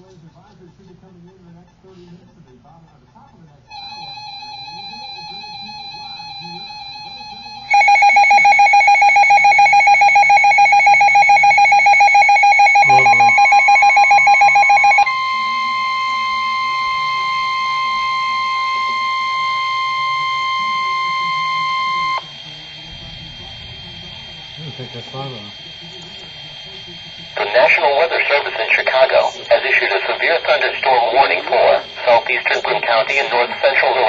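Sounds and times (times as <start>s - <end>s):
emergency alert tones: 3.7s - 34.0s.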